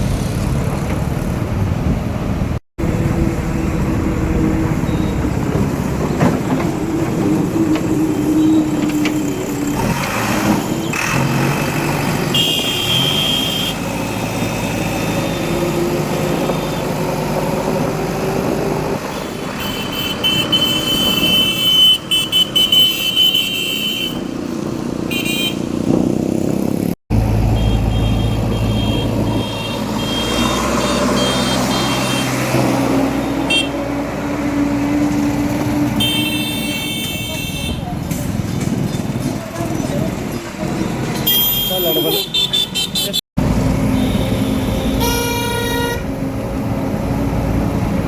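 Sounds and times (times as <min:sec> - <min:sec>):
heavy diesel engines running: 0:00.0 - 0:42.1, 0:43.4 - 0:48.0.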